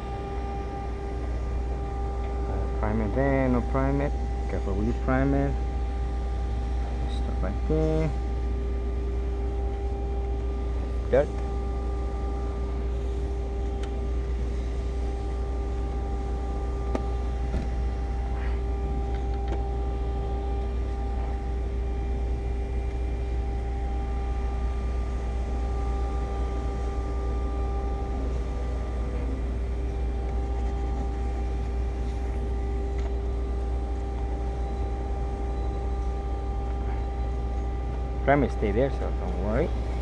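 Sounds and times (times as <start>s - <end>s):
mechanical hum with whine: 0.0s - 40.0s.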